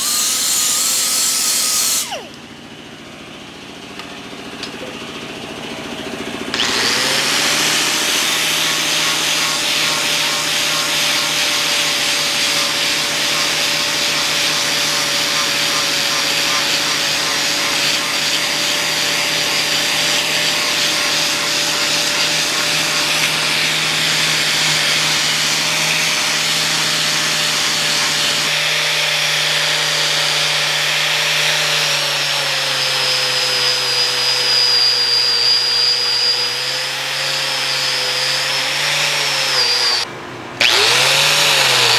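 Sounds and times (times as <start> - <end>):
power tool motor whining: 0.0 - 2.5, 6.1 - 41.9.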